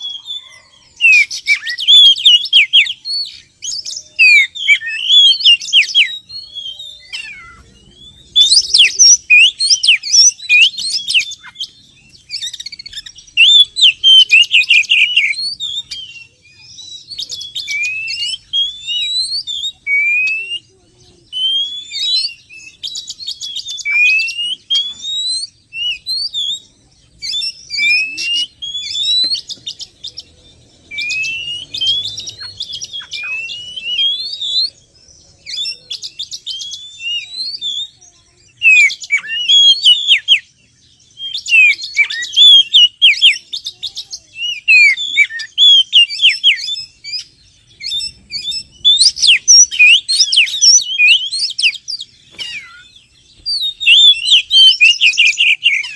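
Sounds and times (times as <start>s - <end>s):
songbird whistling and chattering: 0.0s - 55.9s.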